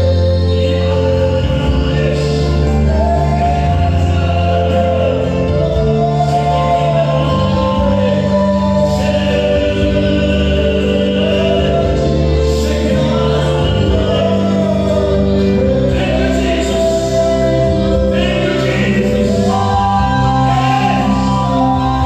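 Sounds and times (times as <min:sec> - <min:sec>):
voices singing worship music: 0:00.0 - 0:22.0.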